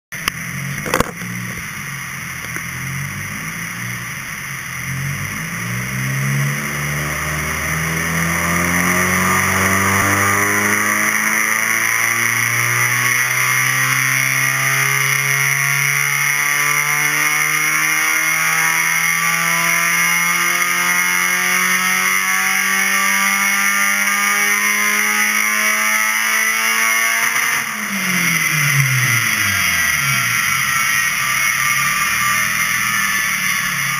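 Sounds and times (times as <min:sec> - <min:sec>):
car engine revving under load: 0:00.2 - 0:33.9.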